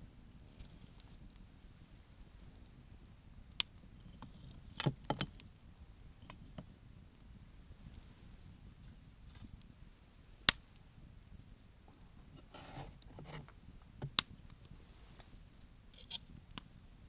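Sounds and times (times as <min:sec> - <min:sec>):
low steady hiss: 0:00.0 - 0:17.0
wood fire crackling: 0:00.0 - 0:17.0.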